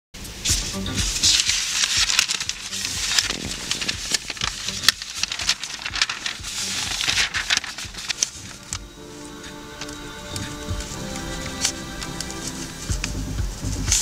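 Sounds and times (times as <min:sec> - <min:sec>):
newspaper pages rustling: 0:00.5 - 0:14.0.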